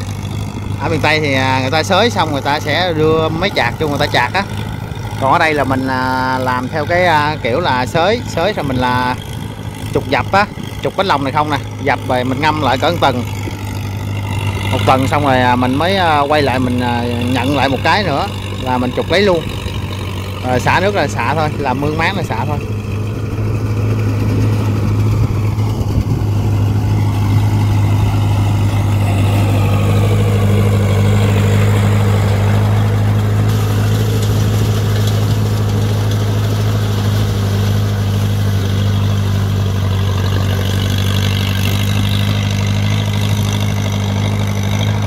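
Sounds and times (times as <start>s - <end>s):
tractor diesel engine drone: 0.0s - 45.0s.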